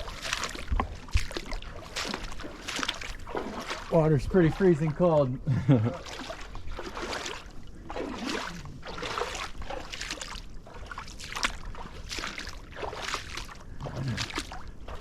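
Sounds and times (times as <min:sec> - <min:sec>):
bare feet splashing through water: 0:00.0 - 0:15.0.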